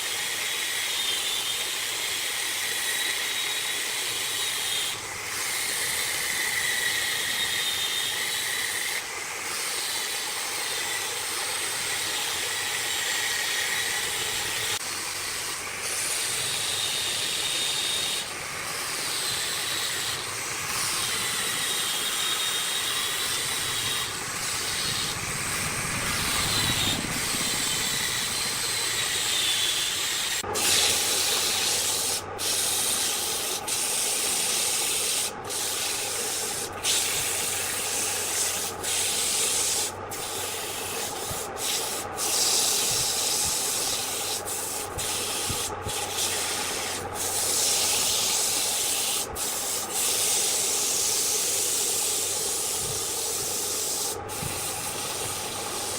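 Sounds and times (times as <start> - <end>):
wood lathe tool rubbing: 0.0 - 55.9.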